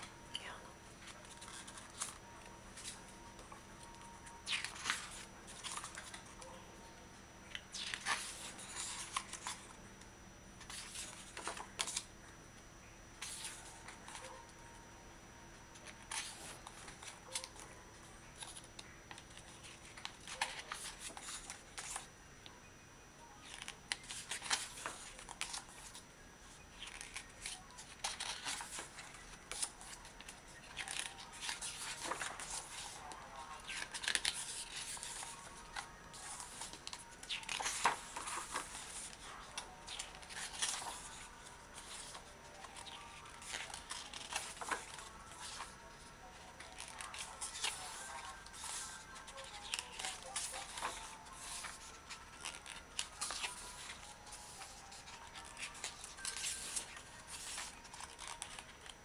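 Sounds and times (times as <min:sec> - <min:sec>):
paper pages turning: 0:00.0 - 0:06.5, 0:07.5 - 0:09.7, 0:10.6 - 0:12.1, 0:13.2 - 0:14.4, 0:15.8 - 0:17.7, 0:18.4 - 0:22.1, 0:23.4 - 0:26.0, 0:26.8 - 0:59.0.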